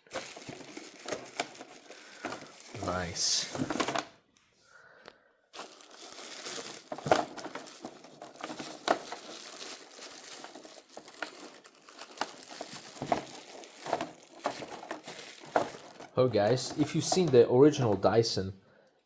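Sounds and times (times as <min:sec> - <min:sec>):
plastic packaging crinkling: 0:00.0 - 0:04.2, 0:05.5 - 0:18.1.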